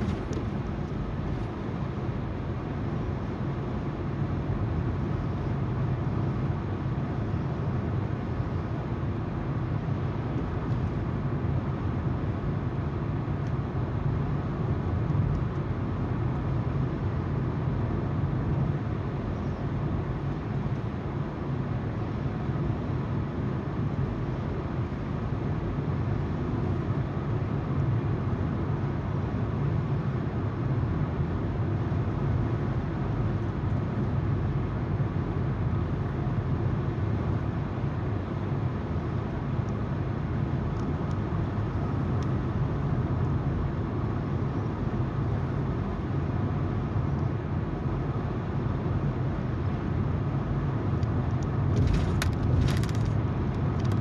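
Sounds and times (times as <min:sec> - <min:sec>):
low engine hum: 0:00.0 - 0:54.0.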